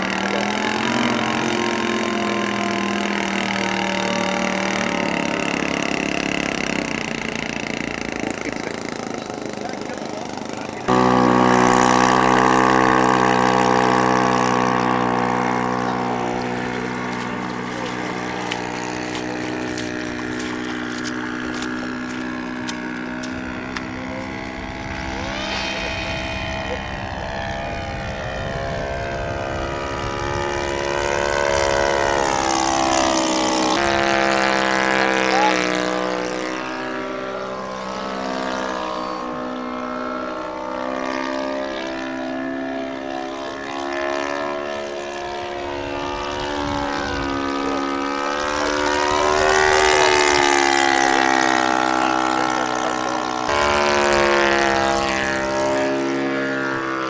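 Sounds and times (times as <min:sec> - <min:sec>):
model plane engine droning: 0:00.0 - 0:57.0.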